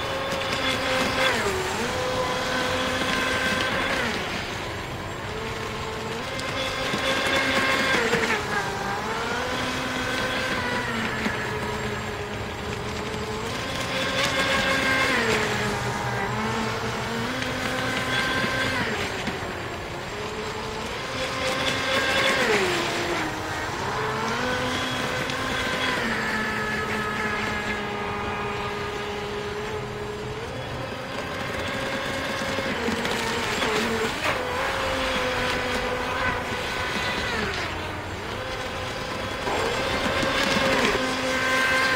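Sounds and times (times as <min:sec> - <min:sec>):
electric motor whining: 0:00.0 - 0:41.9.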